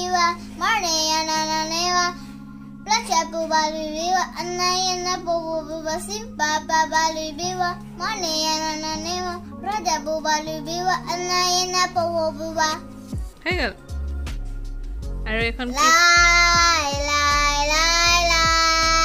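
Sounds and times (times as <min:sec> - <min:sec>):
young girl singing: 0:00.0 - 0:13.1, 0:15.7 - 0:19.0.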